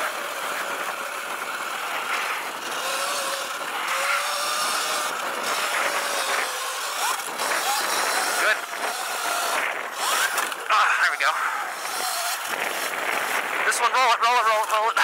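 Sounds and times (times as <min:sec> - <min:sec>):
electric motor whining: 0:00.0 - 0:15.0
steady rushing noise: 0:00.0 - 0:15.0.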